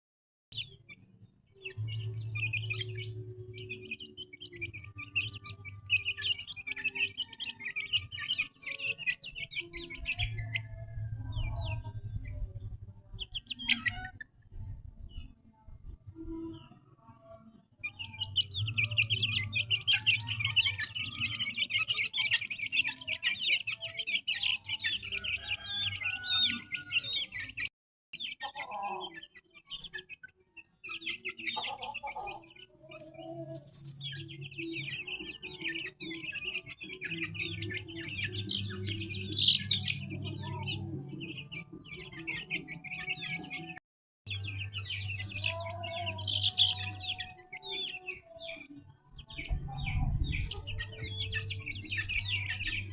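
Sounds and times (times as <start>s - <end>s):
chicks peeping: 0.5s - 52.9s.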